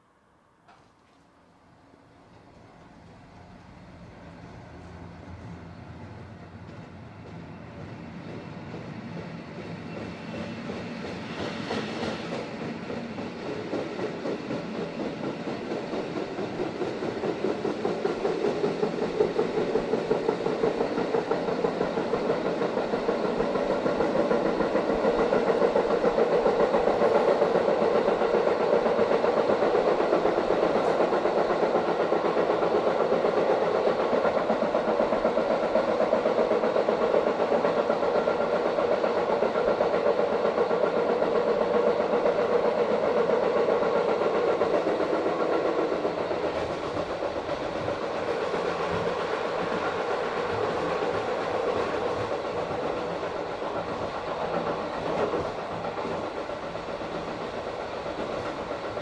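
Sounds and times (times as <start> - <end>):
train running noise: 0.6 - 59.0.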